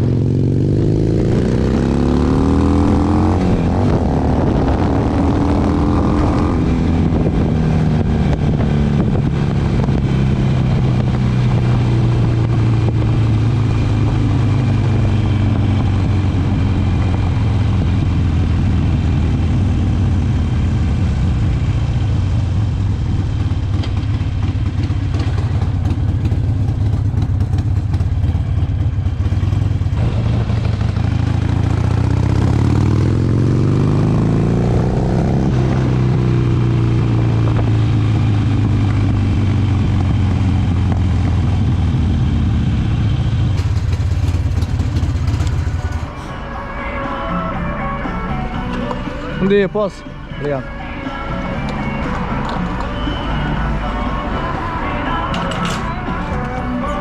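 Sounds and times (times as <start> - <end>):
motorcycle engine running: 0.0 - 47.1.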